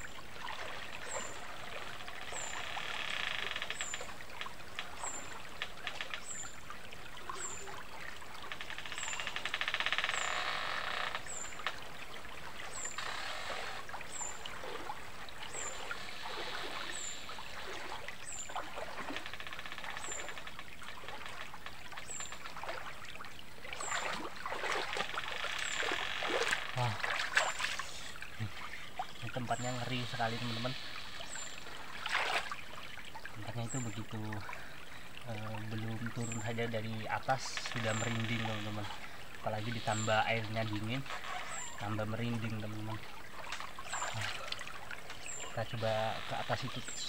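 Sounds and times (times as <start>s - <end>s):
river water running and splashing: 0.0s - 47.0s.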